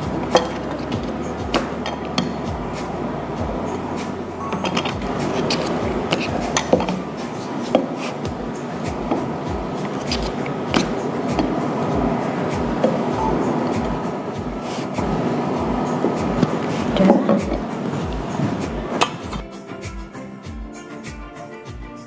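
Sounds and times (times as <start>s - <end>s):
rolling pin rolling dough: 0.0s - 19.4s
steady background din: 0.0s - 19.5s.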